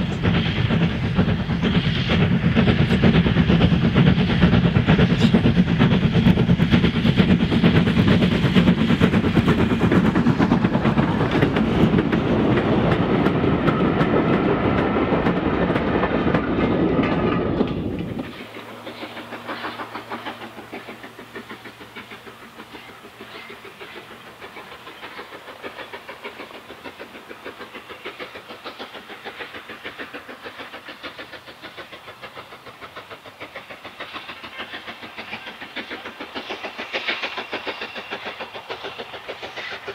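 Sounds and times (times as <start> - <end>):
steam train running: 0.0 - 39.9.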